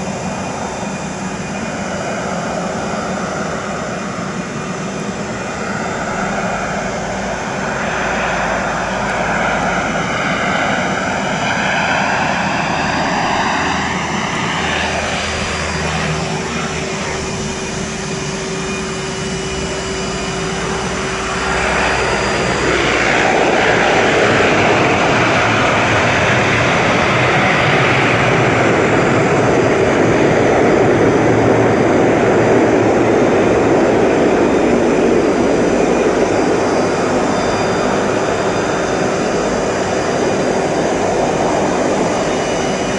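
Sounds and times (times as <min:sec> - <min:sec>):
turboprop plane droning: 0:00.0 - 0:42.9.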